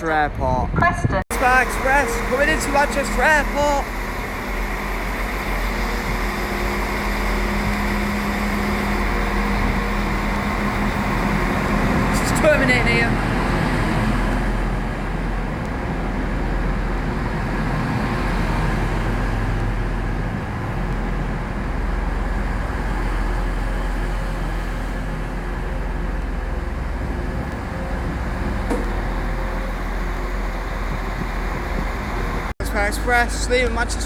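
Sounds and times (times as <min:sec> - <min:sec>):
train diesel engines idling: 0:01.2 - 0:34.0.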